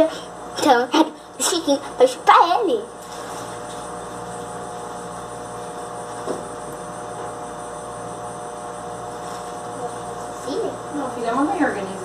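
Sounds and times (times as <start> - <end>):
mechanical hum with tones: 0.0 - 12.0.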